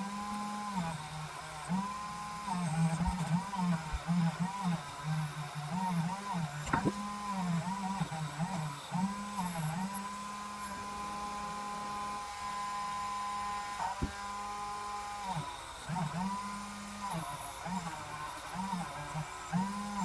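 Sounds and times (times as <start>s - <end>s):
handheld power tool motor whining: 0.0s - 20.0s.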